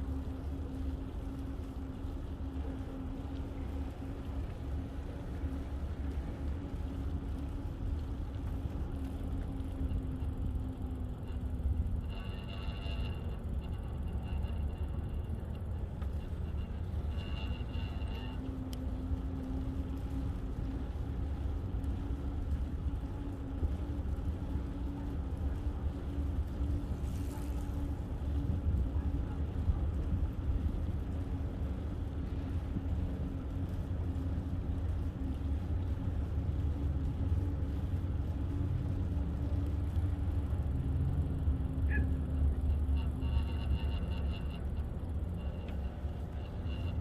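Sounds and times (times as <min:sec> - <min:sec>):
faint even hum: 0:00.0 - 0:47.0
steady low rumble: 0:00.0 - 0:47.0.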